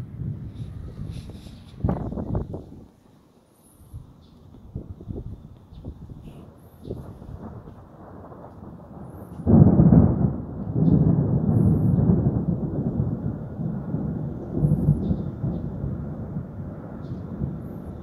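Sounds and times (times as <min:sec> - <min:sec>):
thunder clap and rumble: 0:00.0 - 0:02.9, 0:04.7 - 0:18.0.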